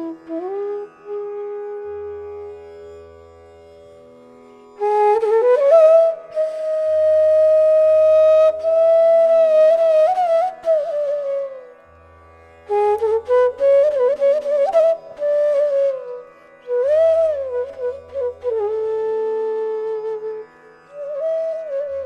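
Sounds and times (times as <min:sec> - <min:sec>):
flute-like melody: 0:00.0 - 0:02.7, 0:04.8 - 0:11.9, 0:12.7 - 0:22.0.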